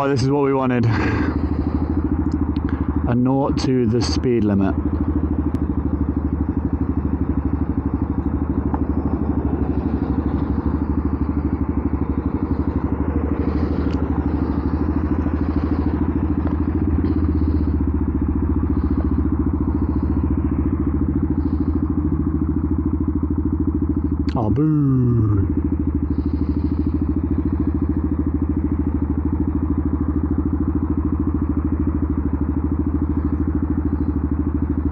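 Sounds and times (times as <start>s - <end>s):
motorcycle engine popping: 0.0s - 34.9s.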